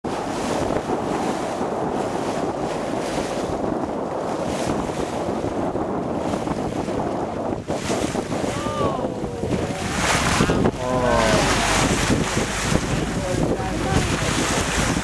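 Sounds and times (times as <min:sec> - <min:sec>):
sea water washing around boat: 0:00.0 - 0:15.0
wind buffeting microphone: 0:00.0 - 0:15.0.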